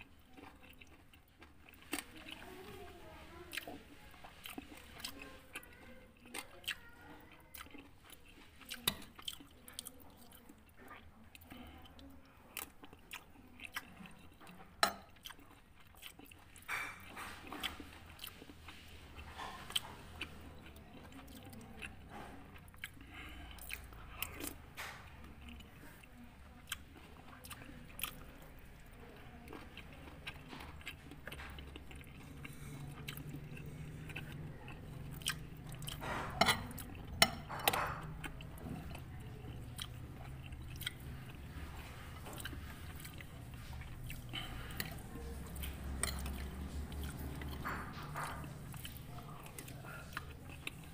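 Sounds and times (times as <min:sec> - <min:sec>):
man chewing food: 0:00.0 - 0:50.9.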